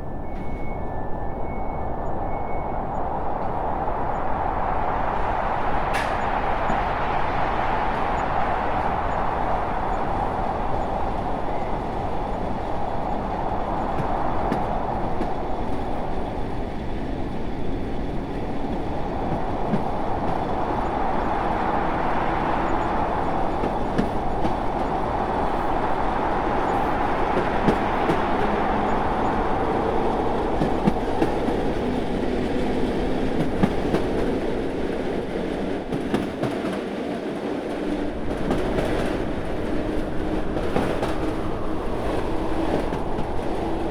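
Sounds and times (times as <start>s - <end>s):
train rumbling on rails: 0.0s - 43.9s.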